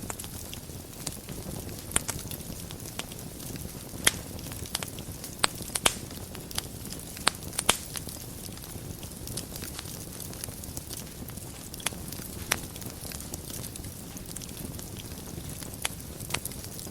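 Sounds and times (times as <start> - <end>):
fire crackling and popping: 0.0 - 16.9
low rumble of fire flames: 0.0 - 16.9.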